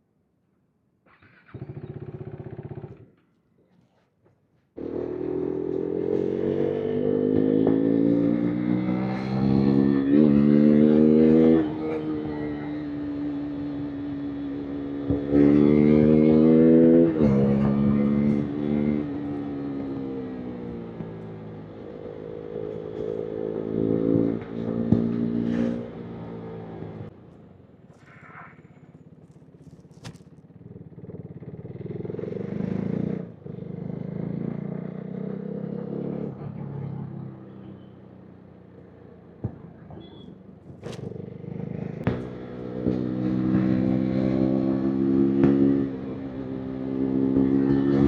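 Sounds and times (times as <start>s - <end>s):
motorcycle engine revving: 1.2s - 3.2s, 4.8s - 27.1s, 28.4s - 37.9s, 39.2s - 48.0s.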